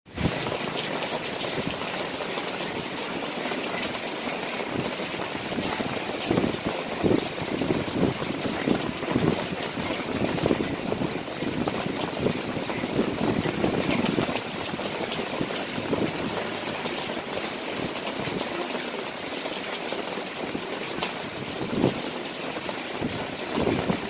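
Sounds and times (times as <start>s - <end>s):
steady rain falling: 0.1s - 24.0s.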